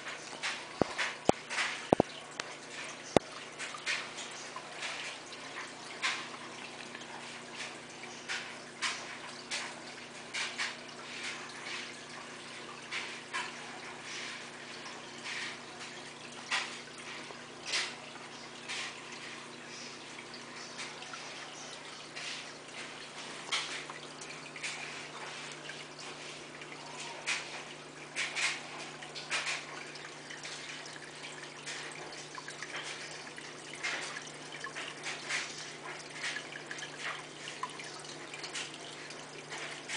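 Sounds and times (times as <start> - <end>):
water splashing and bubbling: 0.0 - 39.9.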